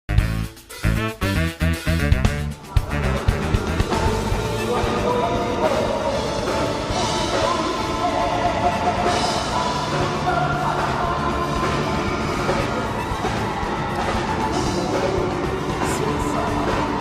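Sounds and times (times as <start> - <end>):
music with singing voice: 0.1 - 17.0.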